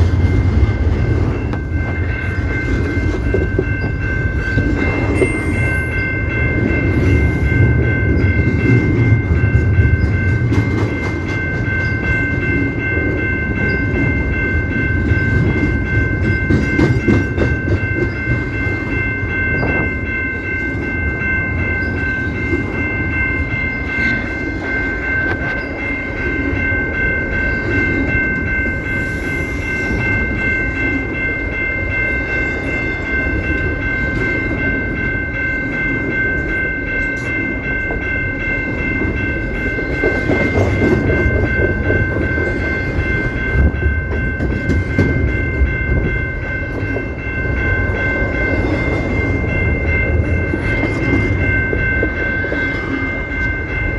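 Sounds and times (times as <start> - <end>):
high-pitched ringing tone: 0.0 - 53.9
train wheels rumbling and clacking: 0.0 - 53.9.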